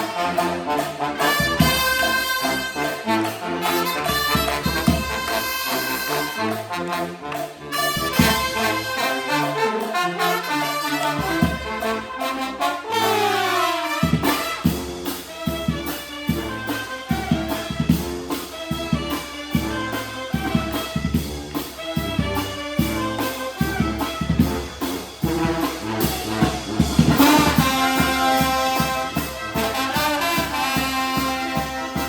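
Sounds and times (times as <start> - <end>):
brass band playing dance tune: 0.0 - 32.0.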